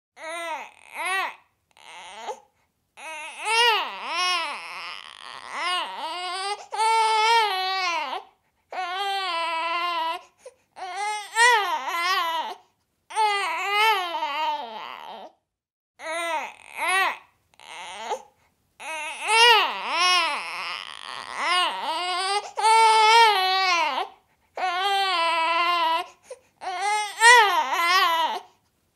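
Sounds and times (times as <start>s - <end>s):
baby whining: 0.2s - 15.4s, 16.0s - 28.6s.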